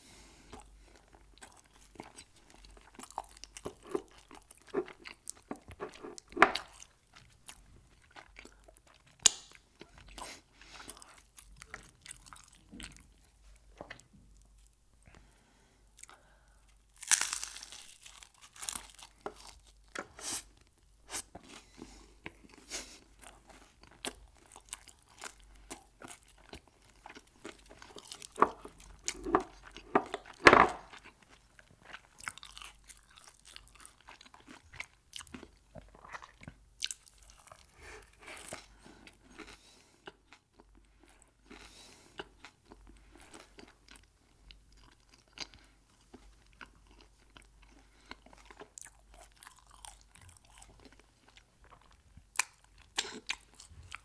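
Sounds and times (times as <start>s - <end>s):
person crunching and chewing food: 0.2s - 14.8s, 16.0s - 54.0s.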